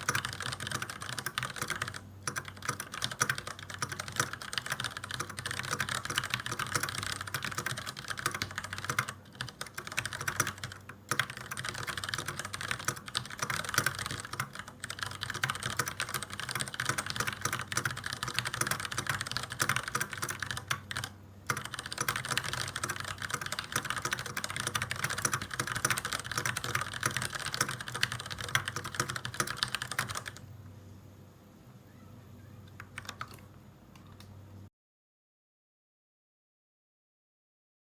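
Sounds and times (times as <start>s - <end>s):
mechanical keyboard typing: 0.0s - 30.4s, 32.7s - 34.2s.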